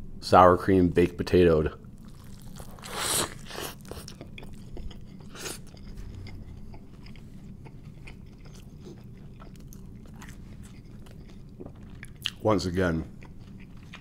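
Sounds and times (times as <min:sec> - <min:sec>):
chewing food: 0:02.0 - 0:14.0.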